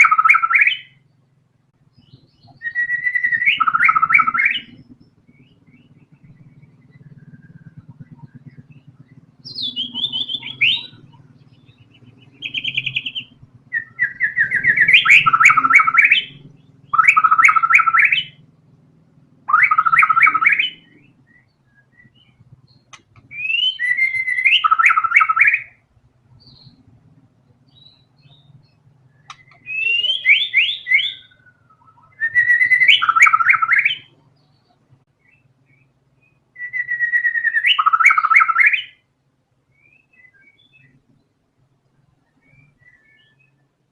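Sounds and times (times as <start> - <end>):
bird singing fast repeated notes: 0.0 - 43.9.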